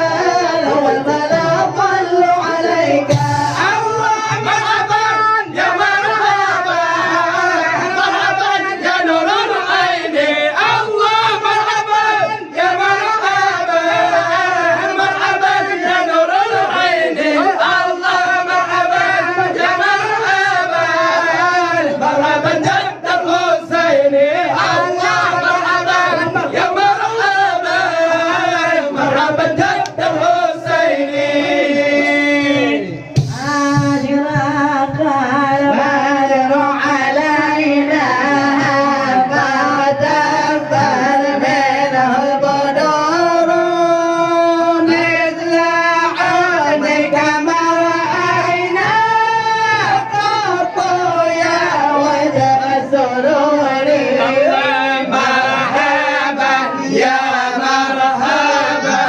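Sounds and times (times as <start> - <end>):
men singing together: 0.0 - 59.0.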